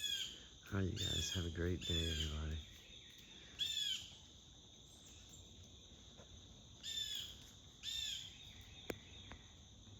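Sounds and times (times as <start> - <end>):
insects droning: 0.0 - 9.9.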